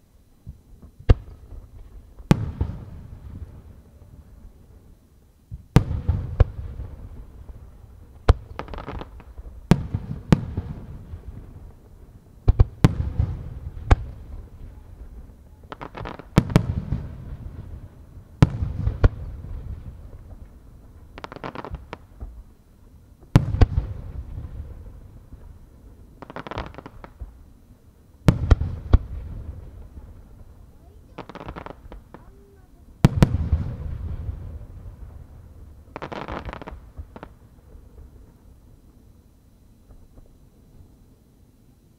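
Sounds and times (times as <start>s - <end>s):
firework crackle: 0.0s - 41.2s
firework booms with echo: 0.5s - 3.8s, 5.5s - 22.5s, 23.2s - 27.4s, 28.2s - 38.8s.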